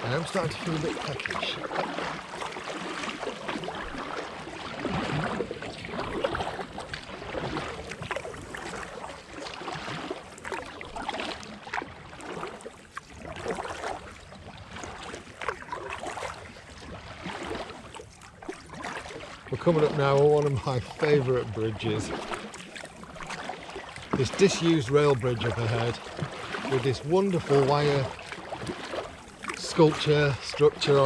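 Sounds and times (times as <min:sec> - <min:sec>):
paddle splashing in water: 0:00.0 - 0:31.0
water dripping off paddle: 0:00.0 - 0:31.0.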